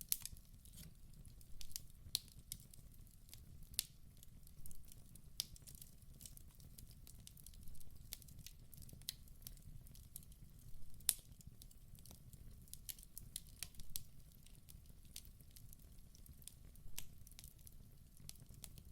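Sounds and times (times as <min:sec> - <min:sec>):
wood fire crackling and popping: 0:00.0 - 0:18.9.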